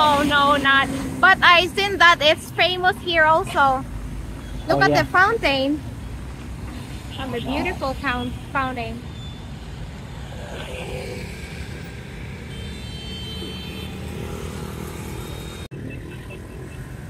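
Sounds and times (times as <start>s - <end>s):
motorbikes and cars passing: 0.0s - 17.0s.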